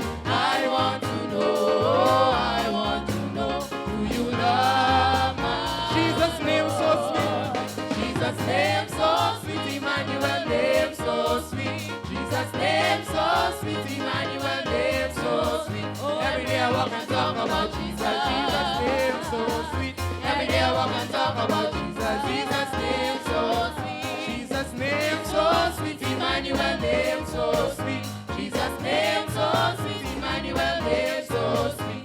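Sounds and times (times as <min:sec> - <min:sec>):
gospel choir singing: 0:00.0 - 0:32.0.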